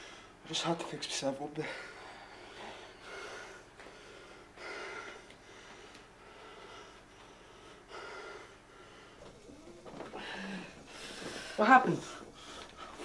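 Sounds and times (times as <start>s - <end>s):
man breathing heavily: 1.6s - 13.0s.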